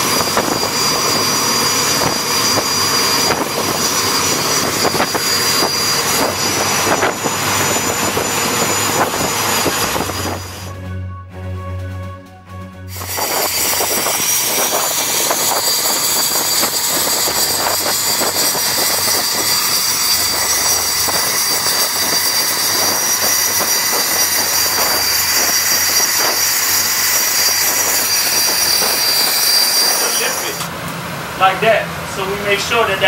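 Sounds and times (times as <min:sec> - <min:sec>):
jet engine with high whine: 0:00.0 - 0:10.8, 0:12.9 - 0:33.0.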